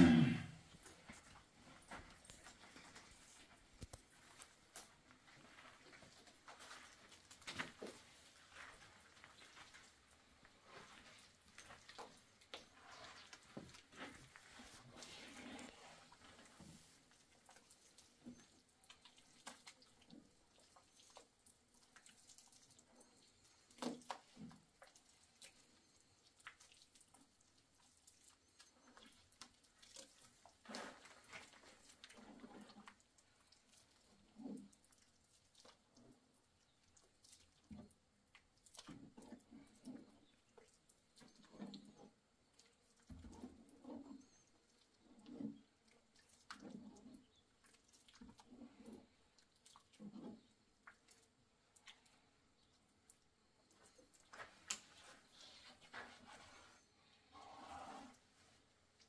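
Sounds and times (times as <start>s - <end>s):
hands squelching plaster paste: 5.5s - 57.0s.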